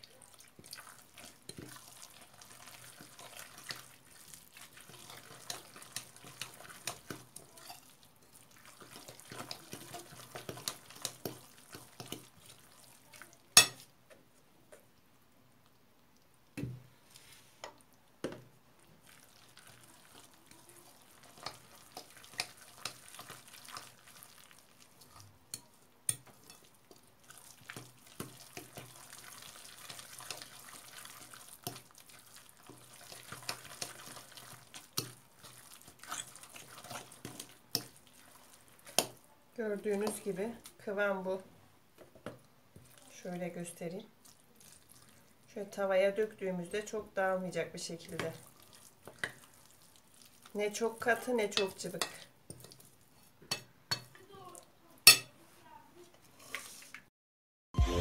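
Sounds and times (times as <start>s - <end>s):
utensil stirring wet batter: 0.0s - 14.9s, 15.7s - 41.4s, 42.0s - 57.1s.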